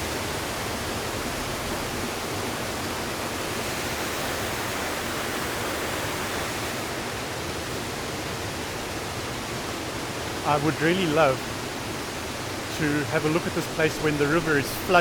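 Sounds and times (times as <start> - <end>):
river water over waterfall: 0.0 - 15.0.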